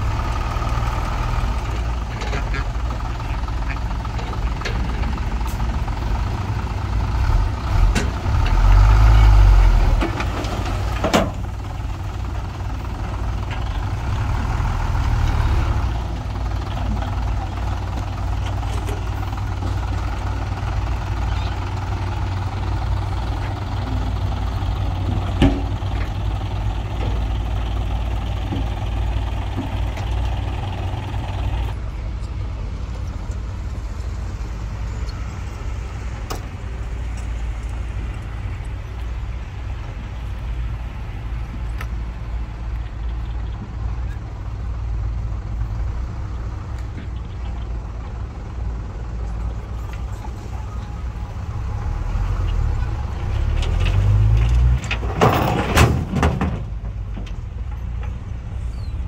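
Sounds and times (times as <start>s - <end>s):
heavy diesel machinery engines revving: 0.0s - 59.0s.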